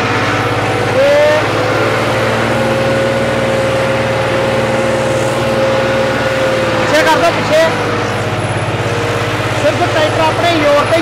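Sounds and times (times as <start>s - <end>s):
tractor engine running under load: 0.0s - 11.0s.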